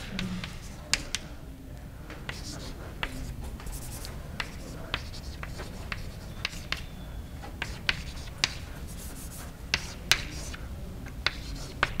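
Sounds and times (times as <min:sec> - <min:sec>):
chalk tapping and scratching: 0:00.0 - 0:01.3, 0:02.2 - 0:12.0
low room hum: 0:00.0 - 0:12.0.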